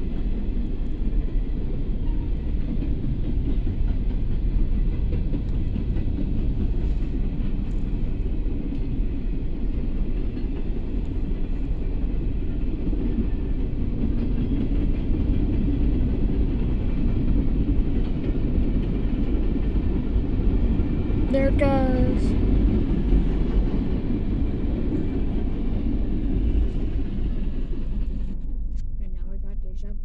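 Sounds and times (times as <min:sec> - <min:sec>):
freight train wheels rumbling: 0:00.0 - 0:29.3.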